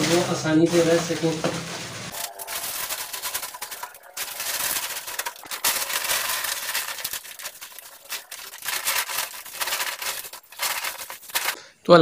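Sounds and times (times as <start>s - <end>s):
plastic sheeting and sack rustling: 0.0s - 11.6s.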